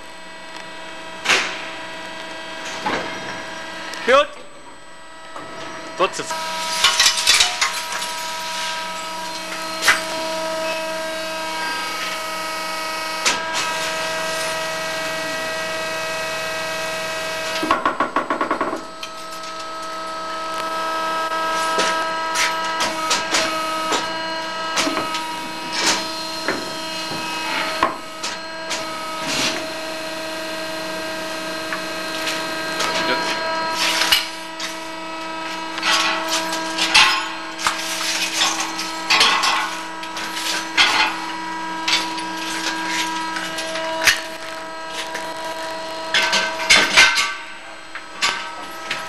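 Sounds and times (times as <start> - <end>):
lathe machine whine: 0.0 - 4.1, 4.7 - 17.9, 18.6 - 49.0.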